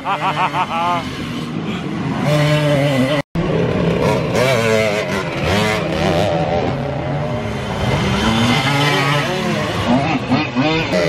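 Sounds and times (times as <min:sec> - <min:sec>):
two-stroke dirt bike engines revving: 0:00.0 - 0:11.0.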